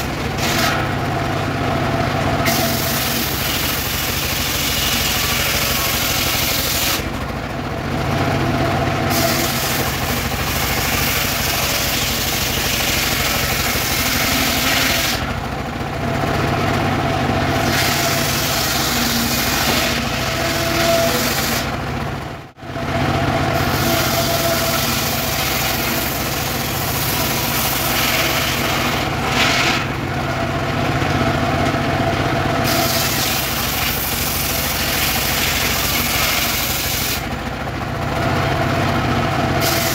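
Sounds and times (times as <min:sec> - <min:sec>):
circular saw cutting wood: 0:00.0 - 0:07.3, 0:08.3 - 0:22.0, 0:22.7 - 0:37.5, 0:38.9 - 0:39.9
engine running: 0:00.0 - 0:39.9.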